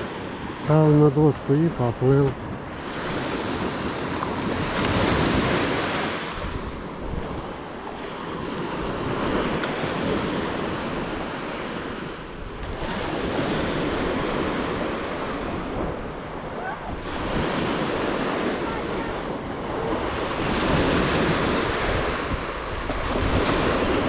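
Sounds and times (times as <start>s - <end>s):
sea waves washing on beach: 0.0s - 24.0s
wind on microphone: 0.0s - 24.0s.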